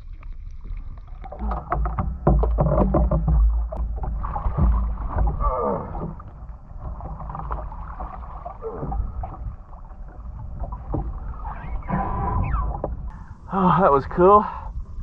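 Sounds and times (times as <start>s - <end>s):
water splashing against hull: 0.0s - 13.6s.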